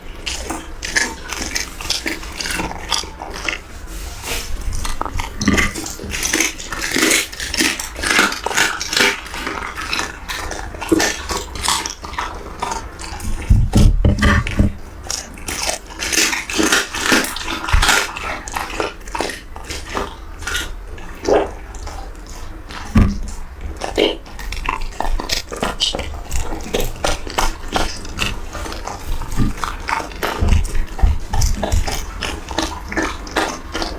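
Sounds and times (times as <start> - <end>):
dog eating crunching: 0.0 - 33.9.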